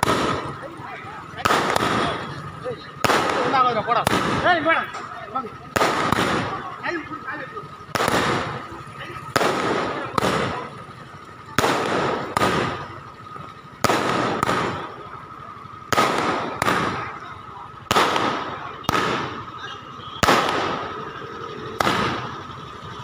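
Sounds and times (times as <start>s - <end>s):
firecracker bangs: 0.0s - 22.8s.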